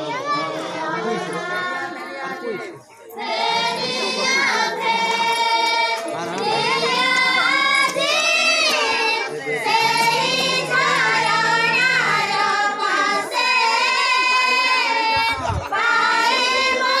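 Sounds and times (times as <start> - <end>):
high voices singing a hymn: 0.0 - 17.0.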